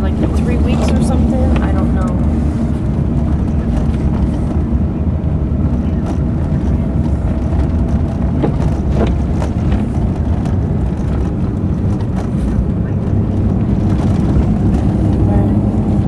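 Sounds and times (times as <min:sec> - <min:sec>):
car driving rumble inside cabin: 0:00.0 - 0:16.0.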